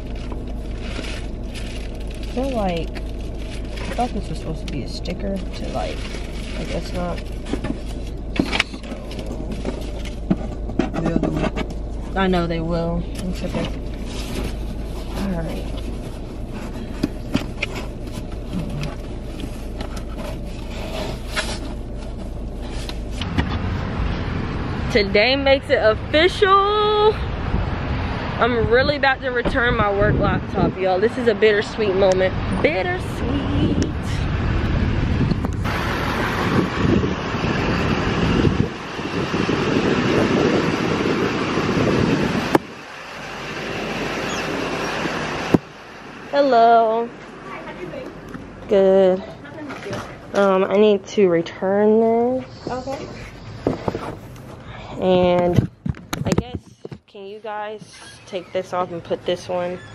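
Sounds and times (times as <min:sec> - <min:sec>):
low rumble inside car: 0:00.0 - 0:59.9
traffic: 0:00.0 - 0:59.9.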